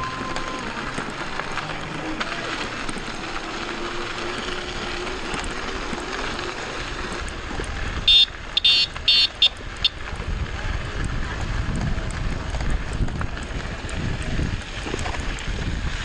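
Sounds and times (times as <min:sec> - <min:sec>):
bikes rolling on trail: 0:00.0 - 0:16.0
faint motor whine: 0:00.0 - 0:16.0.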